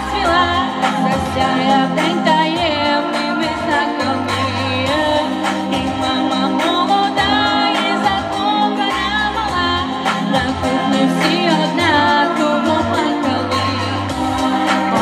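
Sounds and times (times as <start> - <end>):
backing music with beat and bass: 0.0 - 15.0
woman singing pop song: 0.0 - 15.0.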